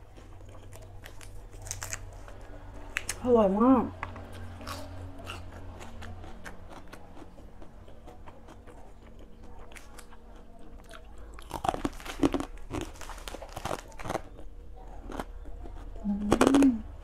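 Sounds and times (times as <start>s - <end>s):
person chewing crunchy food: 0.0s - 3.2s, 4.0s - 17.0s.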